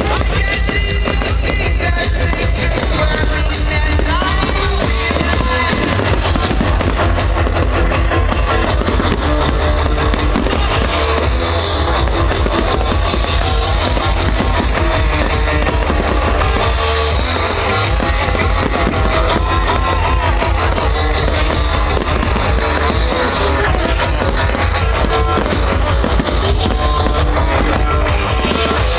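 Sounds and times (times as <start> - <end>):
firework bangs and crackle: 0.0 - 28.9
rock music: 0.0 - 28.9.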